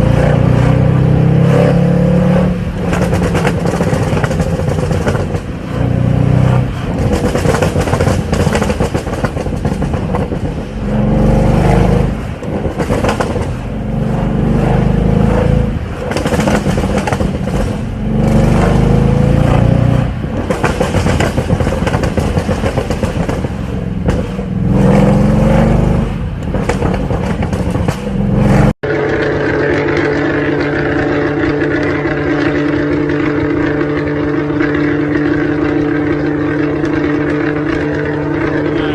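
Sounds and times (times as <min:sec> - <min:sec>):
vehicle engine revving and accelerating: 0:00.0 - 0:38.9.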